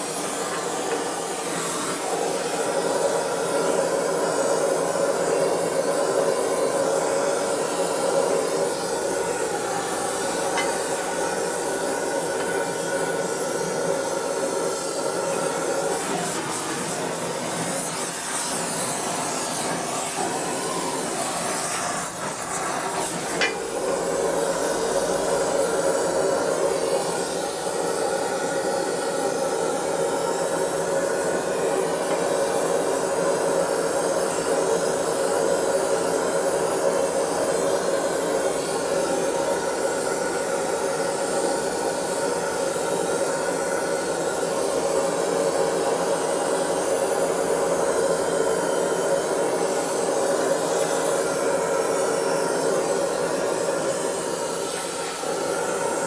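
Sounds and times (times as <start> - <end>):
gas torch flame hissing: 0.0 - 56.0.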